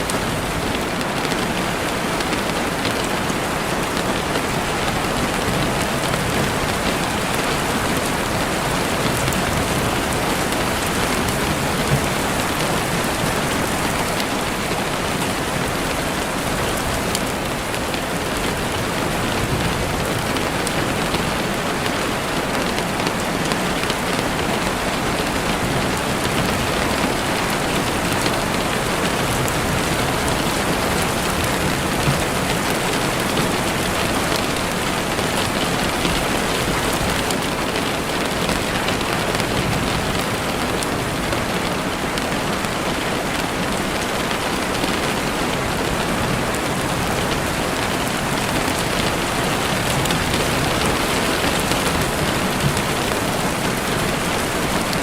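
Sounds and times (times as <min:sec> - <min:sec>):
rain on leaves and ground: 0:00.0 - 0:55.0.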